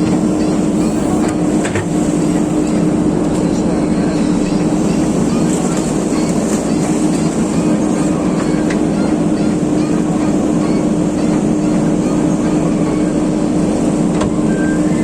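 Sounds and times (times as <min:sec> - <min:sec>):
digger engine running: 0:00.0 - 0:14.2.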